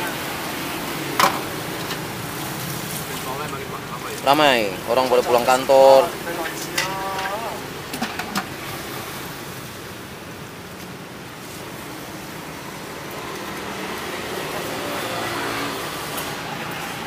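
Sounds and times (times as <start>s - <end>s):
street traffic passing: 0.0s - 17.0s.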